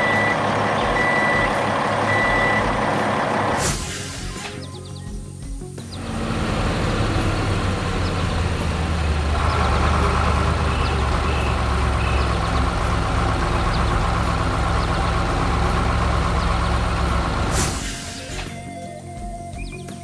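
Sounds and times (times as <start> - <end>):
heavy machinery engine rumbling: 0.0 - 5.0, 5.7 - 18.6
high whine: 0.0 - 19.4.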